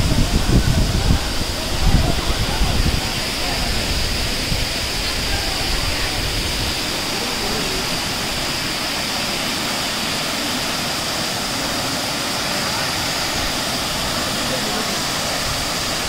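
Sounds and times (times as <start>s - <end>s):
waterfall rushing onto rocks: 0.0s - 16.0s.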